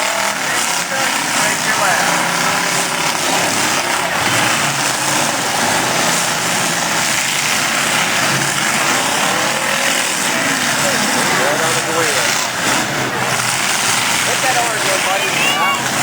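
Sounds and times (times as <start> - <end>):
demolition derby car engines running: 0.0 - 16.0.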